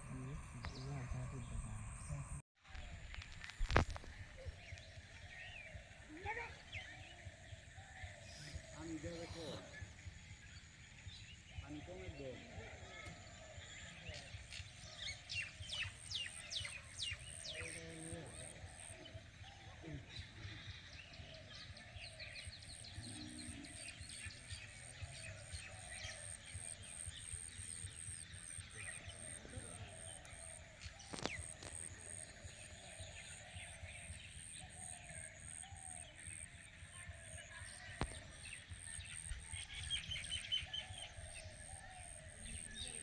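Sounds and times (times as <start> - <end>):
birds chirping and calling: 0.0 - 43.0.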